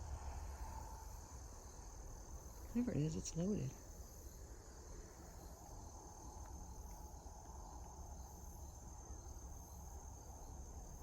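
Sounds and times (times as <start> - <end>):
insect chorus drone: 0.0 - 11.0
low rumble of wind: 0.0 - 11.0.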